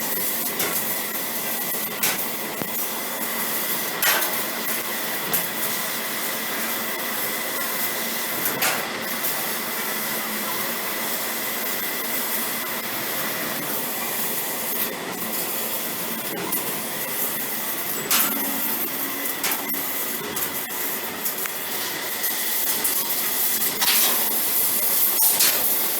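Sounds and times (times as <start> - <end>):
laser cutter hiss and whine: 0.0 - 25.9.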